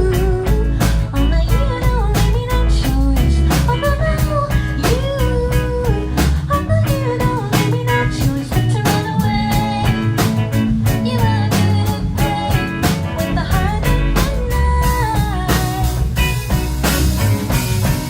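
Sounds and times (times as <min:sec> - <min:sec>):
drum kit beat: 0:00.0 - 0:18.0
live band music: 0:00.0 - 0:18.0.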